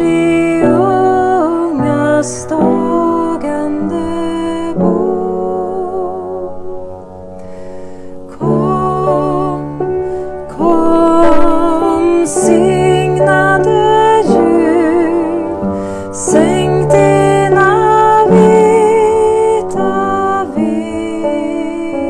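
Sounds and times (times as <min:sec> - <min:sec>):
woman singing with vibrato: 0:00.0 - 0:06.6, 0:08.3 - 0:22.0
piano chords: 0:00.0 - 0:22.0.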